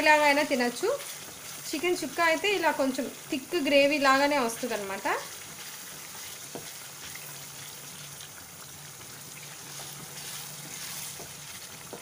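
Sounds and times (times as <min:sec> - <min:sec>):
wooden spatula stirring: 0:00.0 - 0:08.4, 0:09.1 - 0:12.0
food sizzling in oil: 0:00.0 - 0:12.0.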